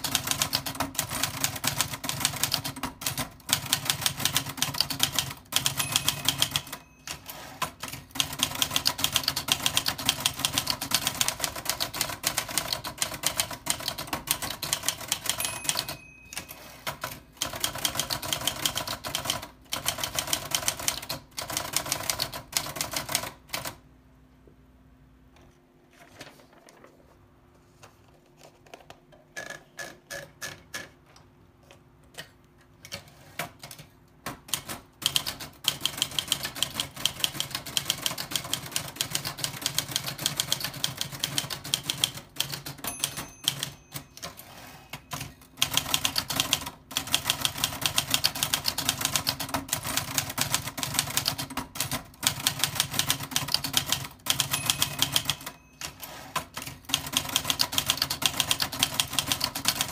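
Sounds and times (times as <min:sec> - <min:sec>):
typewriter typing: 0:00.0 - 0:23.8, 0:32.2 - 0:59.9.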